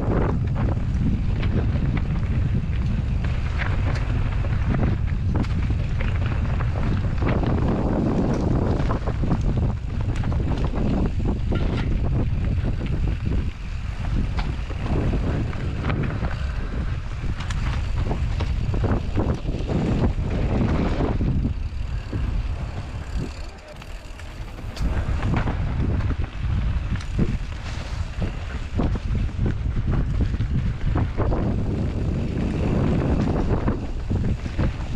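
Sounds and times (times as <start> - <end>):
bike clicks and rattles: 0.0 - 34.9
wind rushing over microphone: 0.0 - 34.9
tyres rolling over ground: 0.1 - 34.9.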